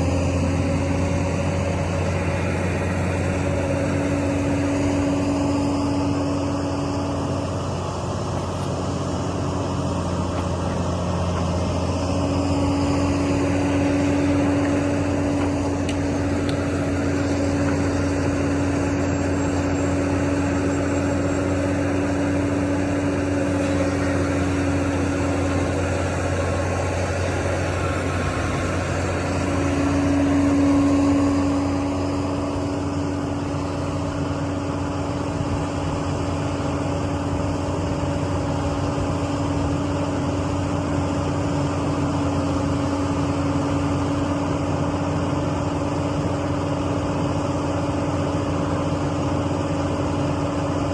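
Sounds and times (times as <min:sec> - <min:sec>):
diesel construction machinery running: 0:00.0 - 0:50.9.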